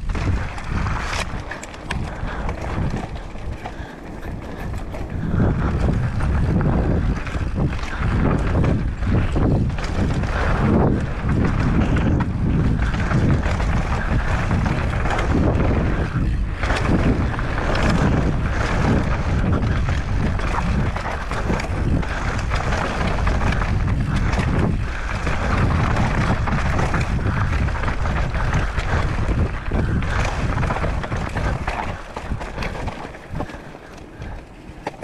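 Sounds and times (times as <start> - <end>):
bike knocks and rattles: 0.0 - 35.0
bike tyre noise: 0.0 - 35.0
wind rushing over microphone: 0.0 - 35.0.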